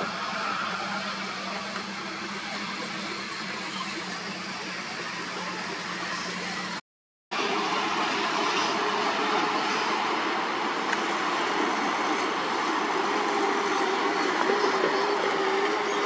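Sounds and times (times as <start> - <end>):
diesel truck engine rumble: 0.0 - 6.8, 7.4 - 16.0
thin steady whine: 0.0 - 16.0.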